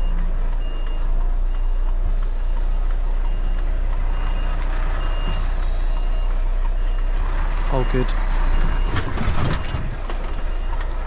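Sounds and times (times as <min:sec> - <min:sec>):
diesel engine running: 0:00.0 - 0:11.0
truck reversing alarm beeping: 0:00.0 - 0:11.0.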